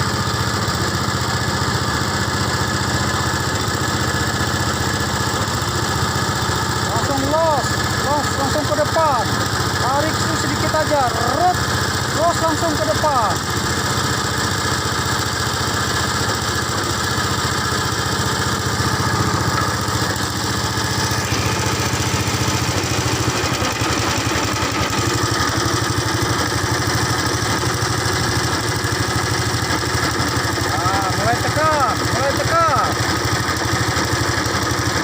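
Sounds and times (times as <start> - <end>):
small petrol engine running: 0.0 - 35.0.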